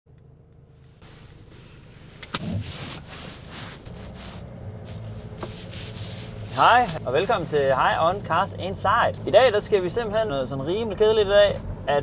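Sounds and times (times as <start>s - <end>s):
engine low hum: 0.1s - 12.0s.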